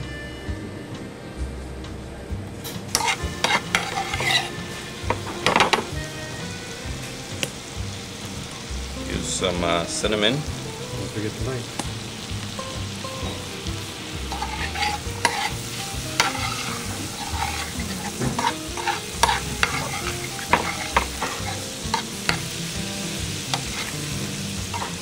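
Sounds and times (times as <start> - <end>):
bananas sizzling in butter: 2.8 - 25.0.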